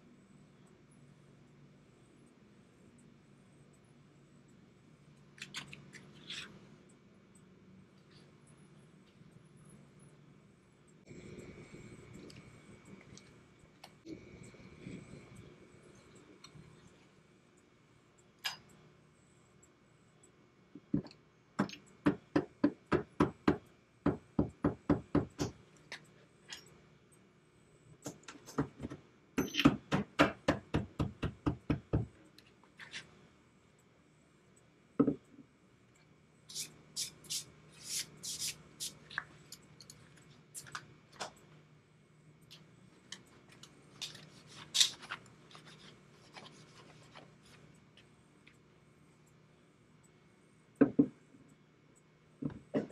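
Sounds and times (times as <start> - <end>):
faint low hum: 0.0 - 52.9.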